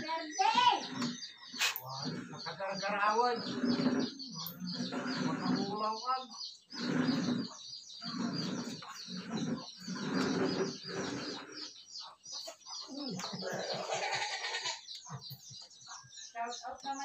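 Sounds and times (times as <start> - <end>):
indistinct voices: 0.0 - 11.7, 12.4 - 15.3
small birds chirping: 0.0 - 17.0.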